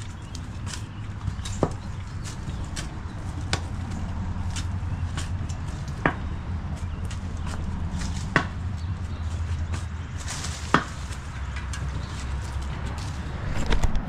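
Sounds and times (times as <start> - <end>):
small crunches and scrapes: 0.0 - 14.0
steady low rumble: 0.0 - 14.0.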